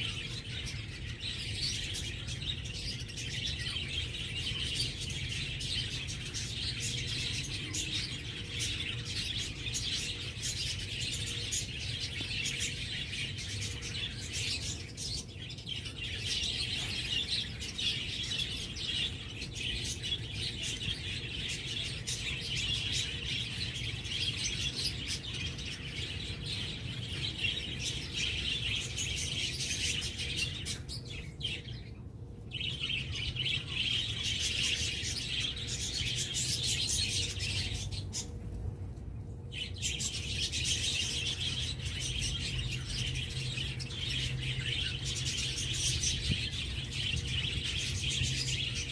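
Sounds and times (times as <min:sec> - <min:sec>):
small birds chirping in chorus: 0:00.0 - 0:48.9.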